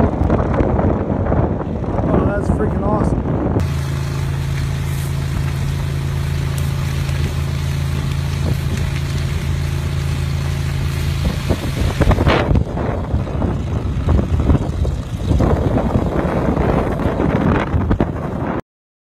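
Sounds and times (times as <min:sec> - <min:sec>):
fire truck engine running: 0:00.0 - 0:18.6
steady rushing noise: 0:00.0 - 0:18.6
wind buffeting microphone: 0:00.0 - 0:18.6.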